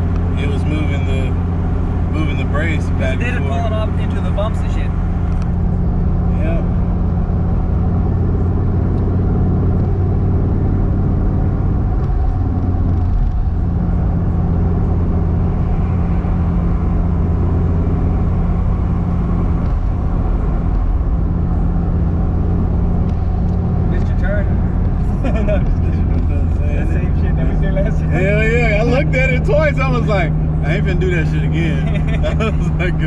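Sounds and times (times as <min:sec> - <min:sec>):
car engine drone: 0:00.0 - 0:33.0
road noise: 0:00.0 - 0:33.0.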